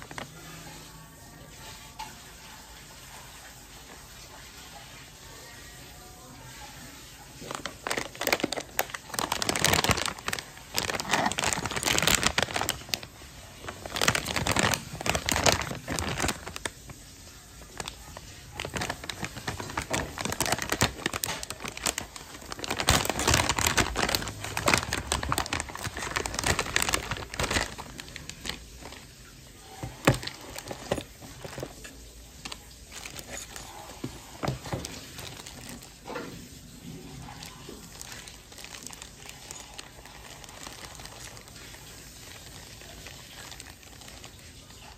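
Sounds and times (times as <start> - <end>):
plastic bags crinkling: 0.0 - 1.0, 7.1 - 44.9.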